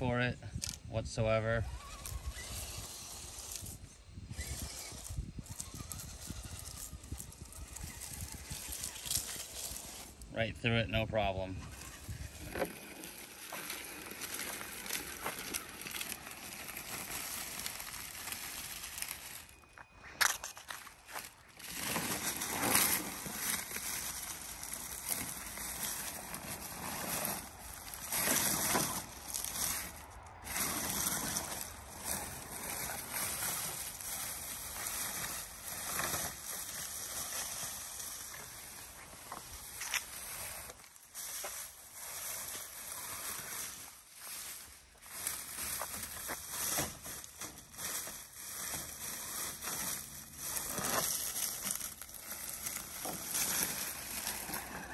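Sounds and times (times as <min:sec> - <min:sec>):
rustling and crunching of grass: 0:00.5 - 0:54.9.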